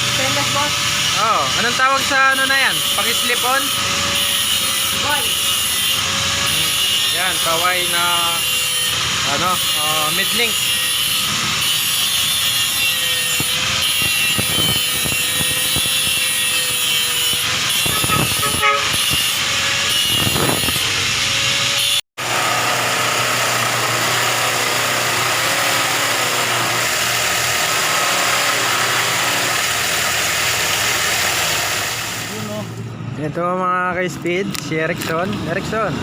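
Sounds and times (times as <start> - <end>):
power tool whine and hiss: 0.0 - 32.6.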